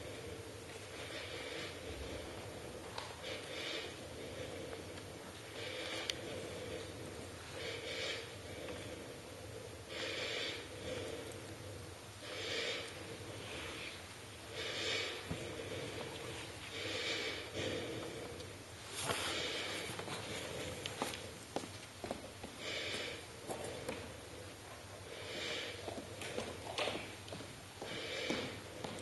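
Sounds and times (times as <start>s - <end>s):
person breathing deeply: 0.0s - 27.1s, 27.7s - 29.0s.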